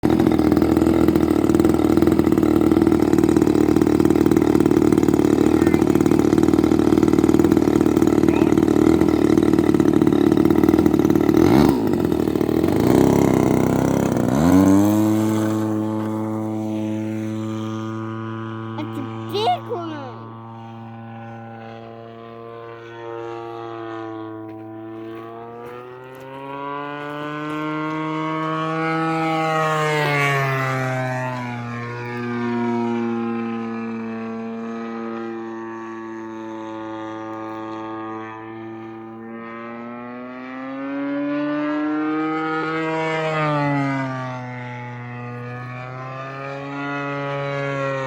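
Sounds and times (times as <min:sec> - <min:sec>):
model airplane engine passing: 0:00.0 - 0:48.0.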